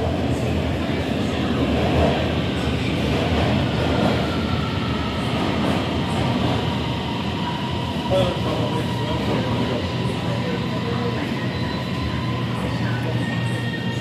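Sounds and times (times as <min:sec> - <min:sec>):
train steady hum: 0:00.0 - 0:14.0.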